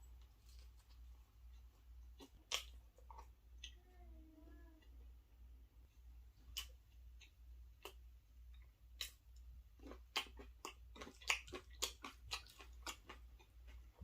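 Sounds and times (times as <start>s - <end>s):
person chewing food: 0.0s - 3.8s, 6.4s - 14.0s.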